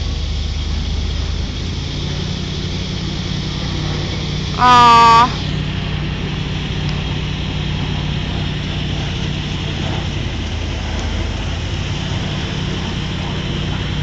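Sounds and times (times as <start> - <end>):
outdoor noise: 0.0 - 14.0
vehicle engine humming: 0.0 - 14.0.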